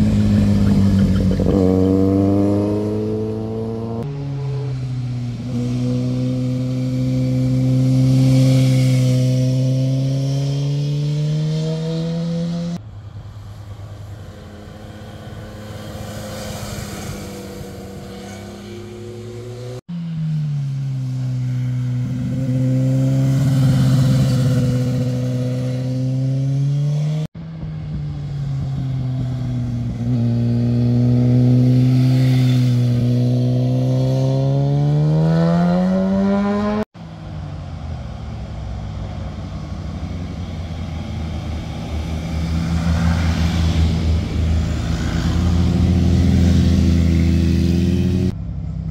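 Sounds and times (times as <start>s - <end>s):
motorcycle engines passing: 0.0s - 48.9s.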